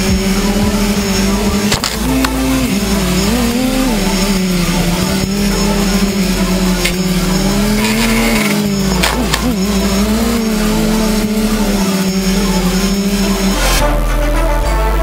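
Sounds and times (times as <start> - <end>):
drone motors whining: 0.0 - 14.2.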